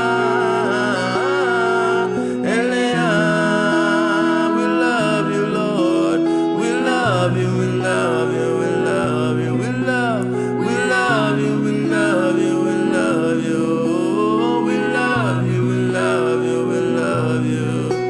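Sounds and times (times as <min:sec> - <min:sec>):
sustained chords: 0:00.0 - 0:18.0
wordless singing voice: 0:00.0 - 0:18.0.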